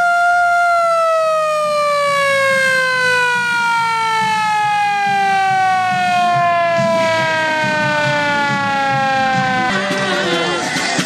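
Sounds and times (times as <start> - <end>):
mechanical siren winding down: 0.0 - 10.3.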